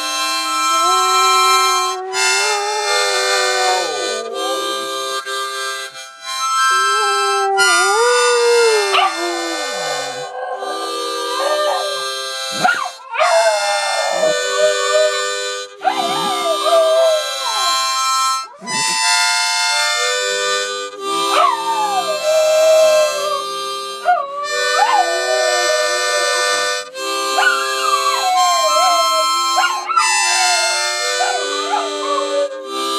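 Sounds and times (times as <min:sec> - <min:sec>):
harmonica playing chords: 0:00.0 - 0:32.9
dog howling: 0:00.7 - 0:05.7, 0:06.6 - 0:18.0, 0:21.0 - 0:32.9.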